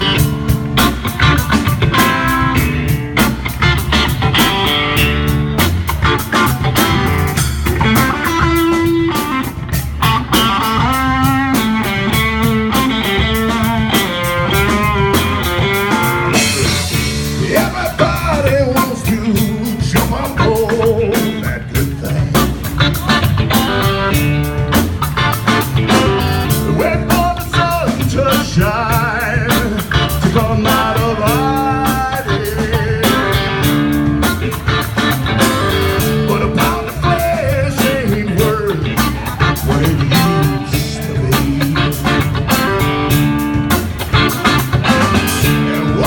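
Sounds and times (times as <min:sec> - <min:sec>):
blues-rock guitar: 0:00.0 - 0:46.0
drum-kit beat: 0:00.0 - 0:46.0.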